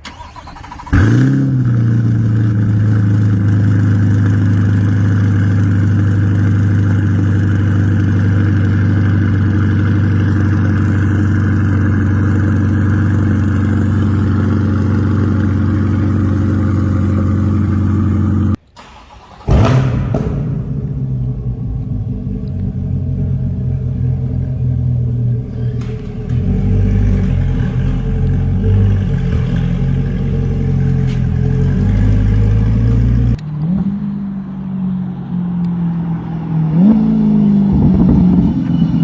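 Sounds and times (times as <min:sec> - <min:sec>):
engine starting and revving: 0:00.0 - 0:34.0
car engine idling: 0:00.0 - 0:39.0.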